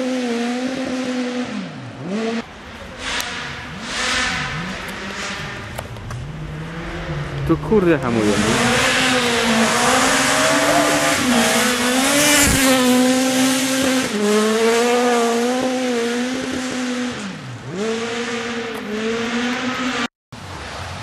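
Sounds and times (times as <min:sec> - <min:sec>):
rally car engine revving: 0:00.0 - 0:20.1.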